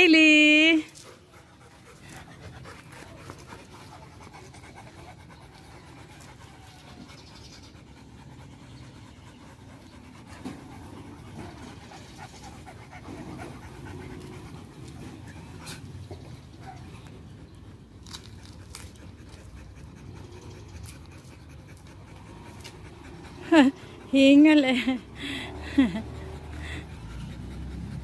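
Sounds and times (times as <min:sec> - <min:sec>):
dogs panting: 0:00.0 - 0:28.0.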